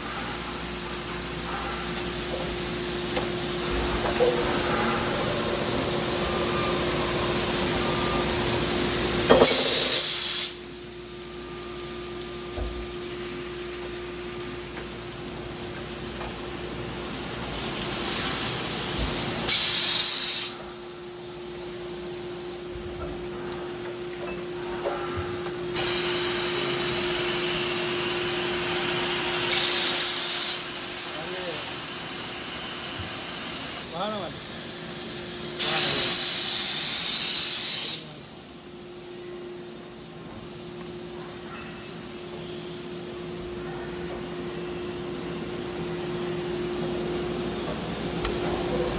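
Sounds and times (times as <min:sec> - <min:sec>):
machine running with hum: 0:00.0 - 0:09.6, 0:10.5 - 0:19.6, 0:20.5 - 0:36.2, 0:38.2 - 0:48.9.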